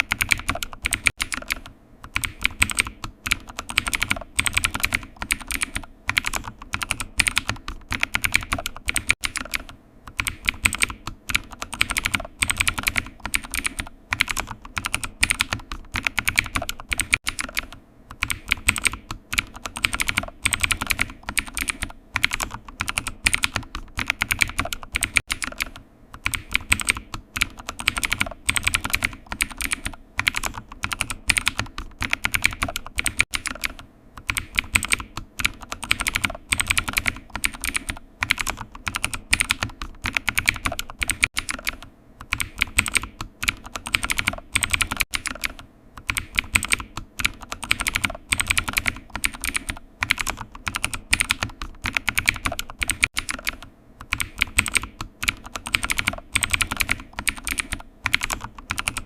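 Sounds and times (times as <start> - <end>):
computer keyboard typing: 0.0 - 59.0.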